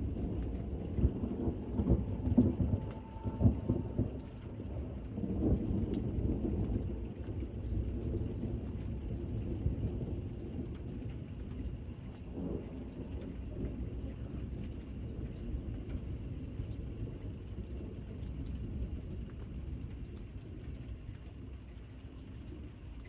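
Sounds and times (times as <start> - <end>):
rolling thunder: 0.0 - 20.1
steady rain: 0.0 - 23.0.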